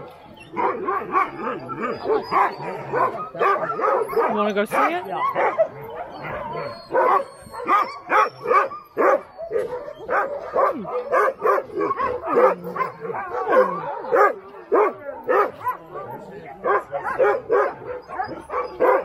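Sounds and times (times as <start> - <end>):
dogs barking and yipping: 0.0 - 19.0
dogs whining: 0.0 - 19.0.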